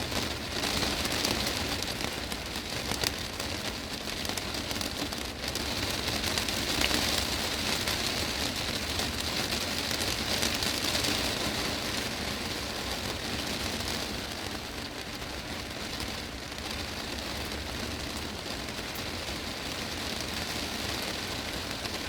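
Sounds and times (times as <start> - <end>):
heavy rain on glass roof: 0.0 - 22.0.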